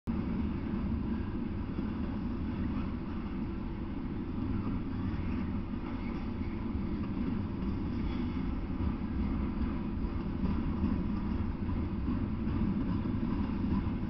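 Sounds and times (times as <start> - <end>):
train wheels rumbling on rails: 0.1 - 14.0.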